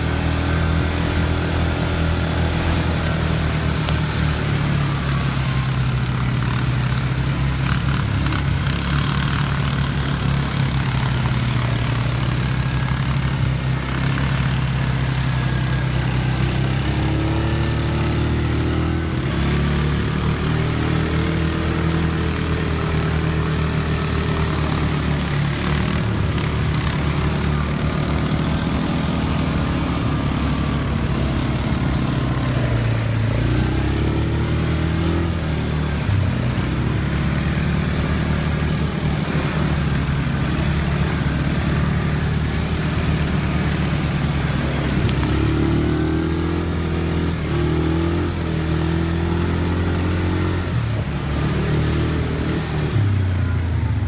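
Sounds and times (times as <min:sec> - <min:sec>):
water splashing under wheels: 0:00.0 - 0:53.1
atv engines revving: 0:00.0 - 0:54.0.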